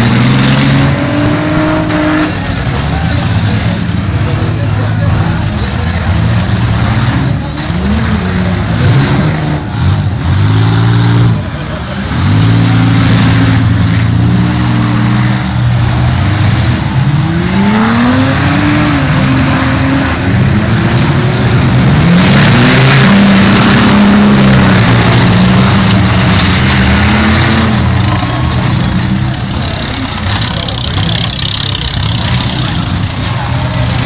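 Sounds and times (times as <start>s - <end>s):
car engines revving: 0.0s - 34.0s
steady engine hum: 0.0s - 34.0s.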